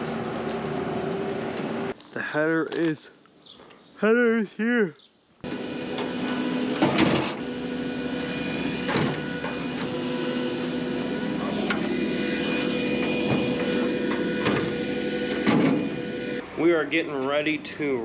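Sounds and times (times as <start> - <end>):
combine harvester humming: 0.0 - 2.0, 5.4 - 18.0.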